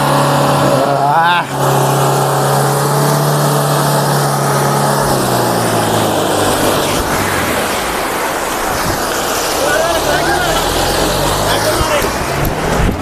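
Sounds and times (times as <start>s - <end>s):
constant rushing noise: 0.0s - 13.0s
vehicle engine droning: 0.0s - 13.0s.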